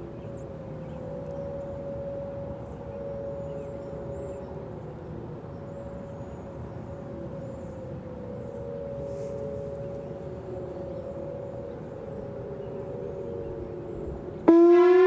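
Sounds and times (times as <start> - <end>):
outdoor warning siren: 0.0 - 15.0.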